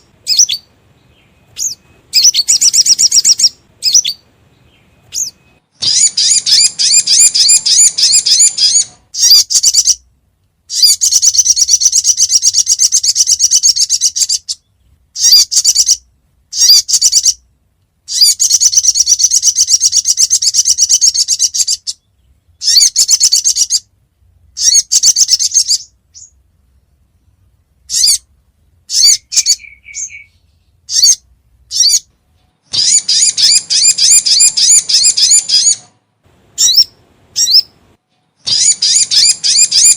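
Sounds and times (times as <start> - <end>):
bird high chirps: 0.0 - 10.1, 10.7 - 17.4, 18.0 - 23.9, 24.5 - 36.0, 36.6 - 37.8, 38.4 - 39.9.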